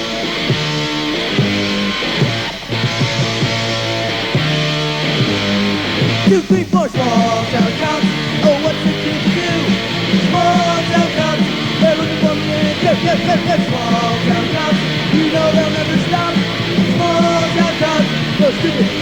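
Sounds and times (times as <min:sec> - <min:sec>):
bass guitar: 0:00.0 - 0:19.0
drums: 0:00.0 - 0:19.0
electric guitar: 0:00.0 - 0:19.0.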